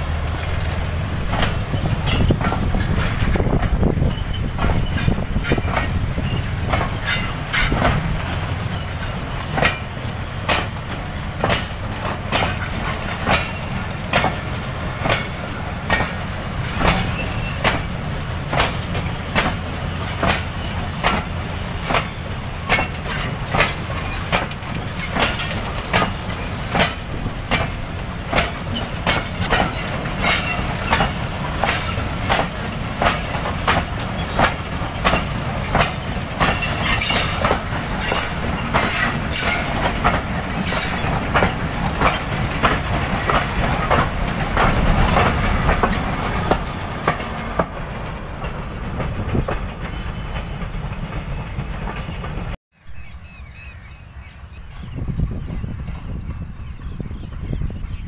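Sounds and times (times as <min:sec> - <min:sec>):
wheels clacking over rail joints: 0:00.0 - 0:52.6
train rumbling past: 0:00.0 - 0:58.0.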